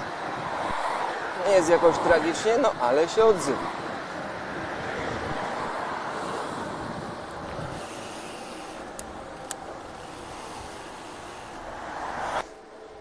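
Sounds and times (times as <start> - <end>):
wind rushing: 0.0 - 12.4
bicycle tyres on asphalt: 0.0 - 13.0.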